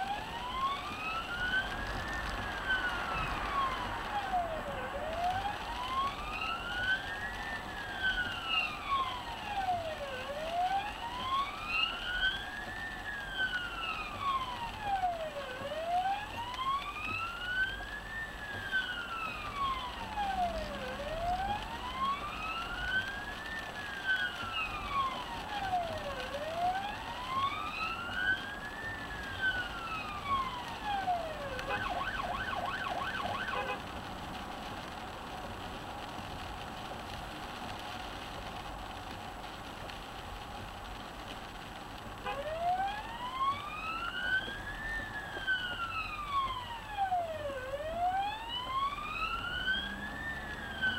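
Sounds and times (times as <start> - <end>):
siren wailing: 0.0 - 33.8, 42.2 - 50.9
road noise: 0.0 - 50.9.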